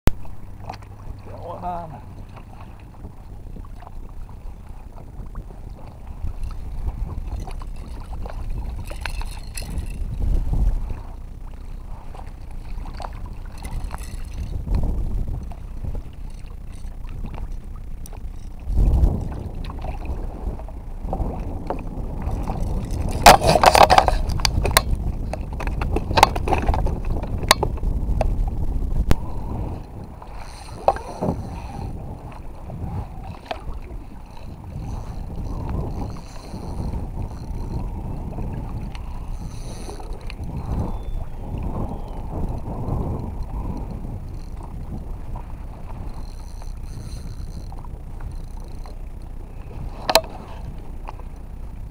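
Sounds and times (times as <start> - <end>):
knocks and rattles against boat: 0.1 - 51.9
low rumble of kayak on water: 0.1 - 51.9.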